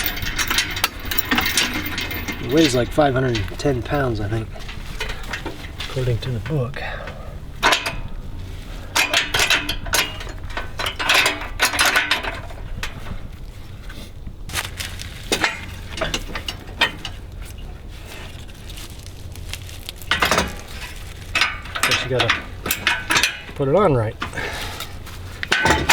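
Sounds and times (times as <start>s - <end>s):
metal clanking and rattling: 0.0s - 13.3s, 14.5s - 25.9s
low steady hum: 0.0s - 25.9s.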